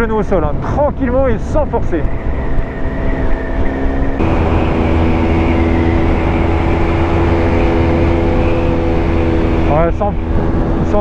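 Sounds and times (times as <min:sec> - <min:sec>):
wind rush: 0:00.0 - 0:11.0
motorcycle engine running: 0:02.1 - 0:11.0.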